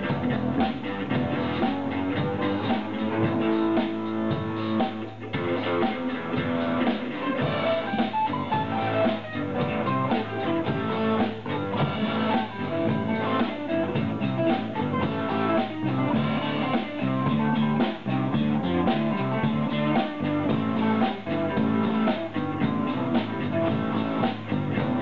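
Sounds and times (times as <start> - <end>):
drum kit: 0.0 - 25.0
guitars strumming: 0.0 - 25.0.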